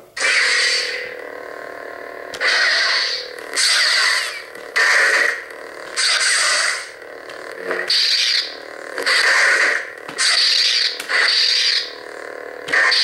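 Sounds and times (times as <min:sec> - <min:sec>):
lightsaber hum: 0:00.0 - 0:13.0
lightsaber clash effects: 0:00.1 - 0:13.0.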